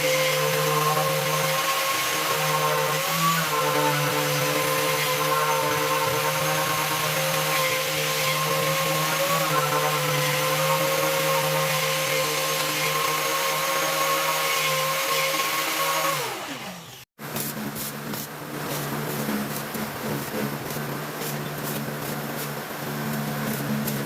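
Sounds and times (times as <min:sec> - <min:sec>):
power tool motor running: 0:00.0 - 0:24.0.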